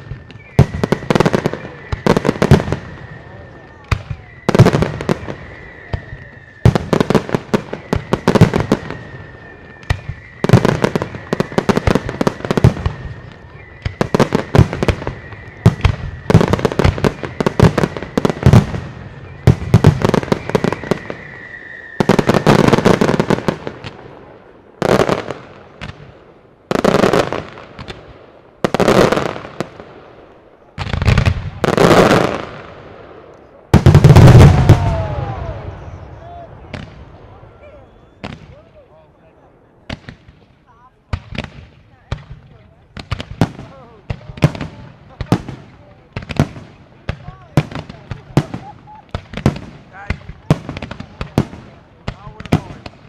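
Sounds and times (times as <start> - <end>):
fireworks bursts and crackling: 0.0 - 53.0.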